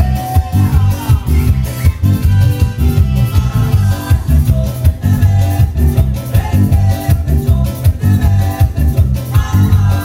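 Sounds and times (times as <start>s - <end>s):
heavy bass beat: 0.0s - 10.0s
latin dance music: 0.0s - 10.0s.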